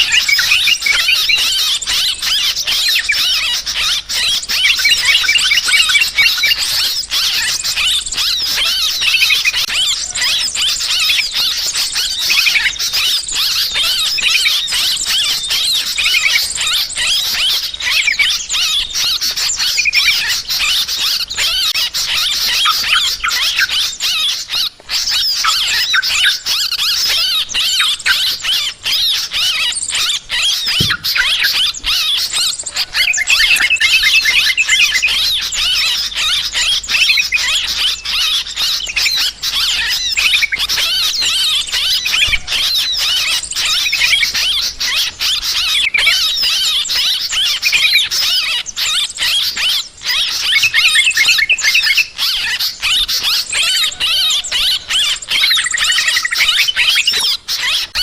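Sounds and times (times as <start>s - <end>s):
flock of birds chattering: 0.0s - 58.0s.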